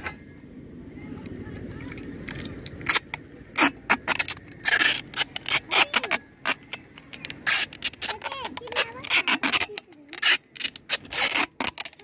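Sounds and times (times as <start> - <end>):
adhesive tape pulled off roll: 2.2 - 12.0.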